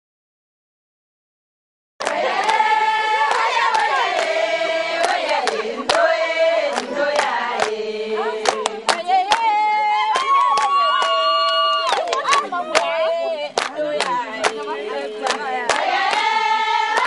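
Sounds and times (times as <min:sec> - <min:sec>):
women singing together: 0:02.0 - 0:17.0.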